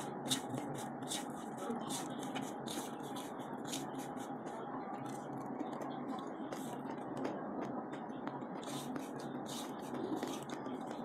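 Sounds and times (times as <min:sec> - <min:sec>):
fingers mixing rice on steel plate: 0:00.0 - 0:11.0
steady low hum: 0:00.0 - 0:11.0.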